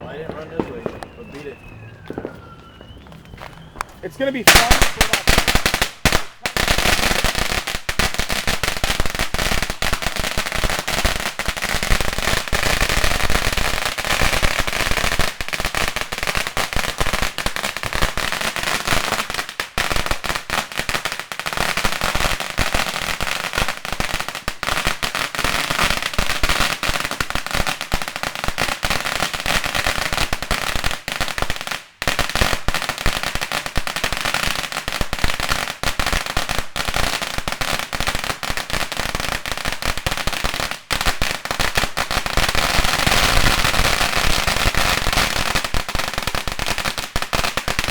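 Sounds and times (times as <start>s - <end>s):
firecrackers going off rapidly: 0.0s - 47.9s.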